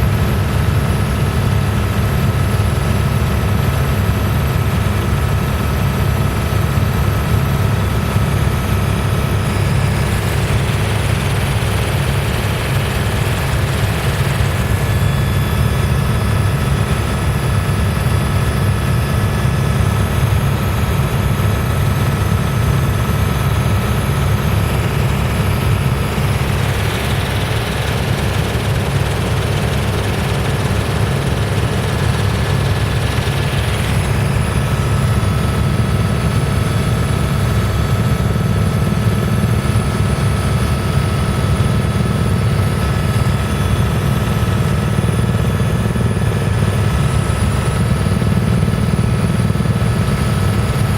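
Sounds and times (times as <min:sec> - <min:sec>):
helicopter rotor and engine drone: 0:00.0 - 0:50.9.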